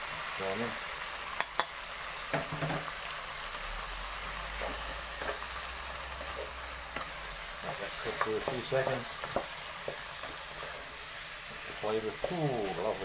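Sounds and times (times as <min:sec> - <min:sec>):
meat and potatoes sizzling in a pot: 0:00.0 - 0:13.0.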